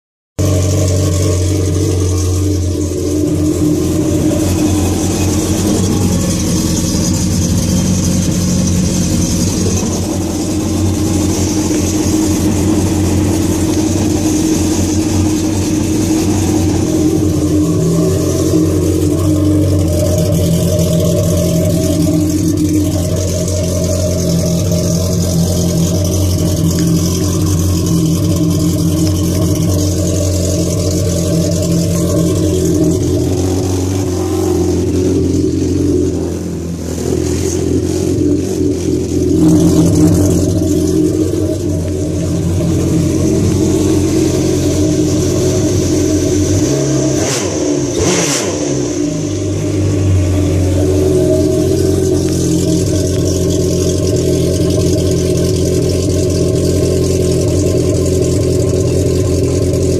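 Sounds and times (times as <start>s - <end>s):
personal watercraft engine idling: 0.4s - 59.9s.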